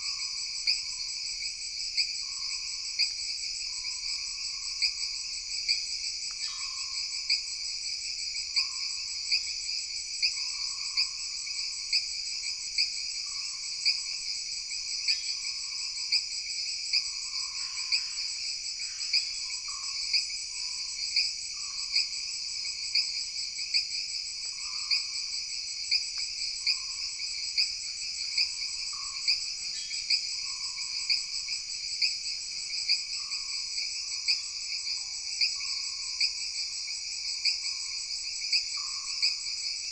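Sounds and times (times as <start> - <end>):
insects chorus with pulsing trill: 0.0 - 39.9.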